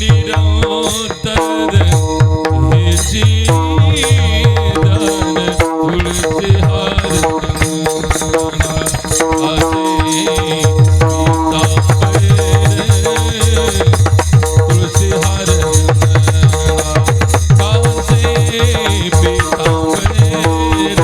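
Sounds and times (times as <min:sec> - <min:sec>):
fast drum strokes: 0:00.0 - 0:21.0.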